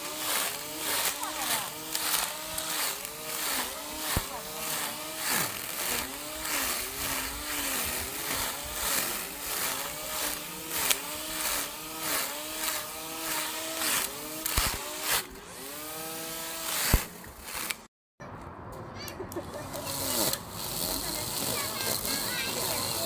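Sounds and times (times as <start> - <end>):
lawn mower motor running: 0.0 - 17.8, 19.5 - 23.0.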